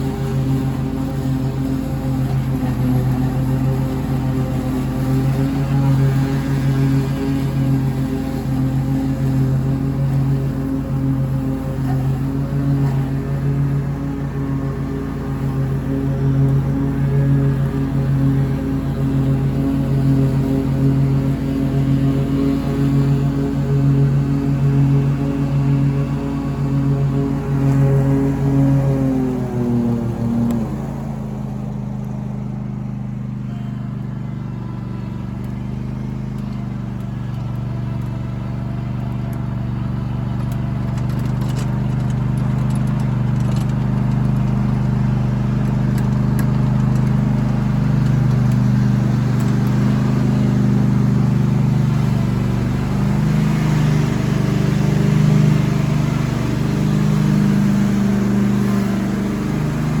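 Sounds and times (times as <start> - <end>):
lawnmower engine running: 0.0 - 60.0.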